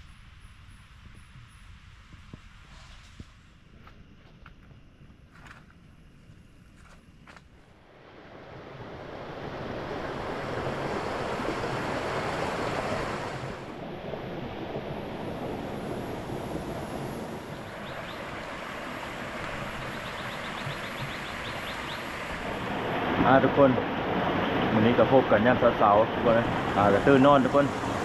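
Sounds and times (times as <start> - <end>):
steady rushing outdoor noise: 0.0 - 28.0.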